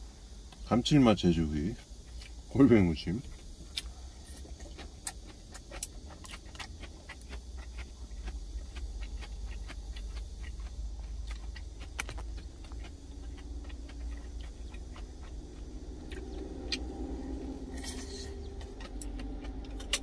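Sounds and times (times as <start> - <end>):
low hum: 0.0 - 20.0
chewing: 3.2 - 20.0.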